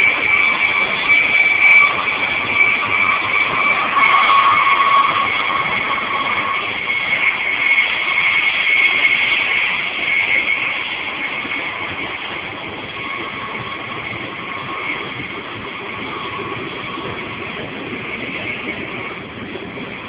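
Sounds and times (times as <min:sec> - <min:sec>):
high steady whines: 0:00.0 - 0:20.0
wheels on rail rushing: 0:00.0 - 0:20.0.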